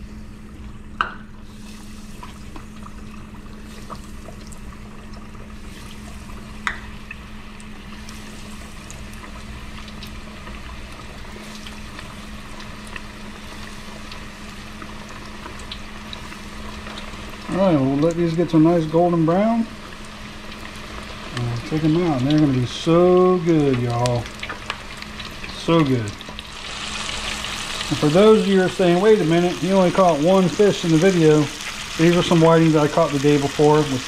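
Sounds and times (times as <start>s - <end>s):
fish sizzling in deep fryer oil: 0.0s - 34.0s
low steady hum: 0.0s - 34.0s.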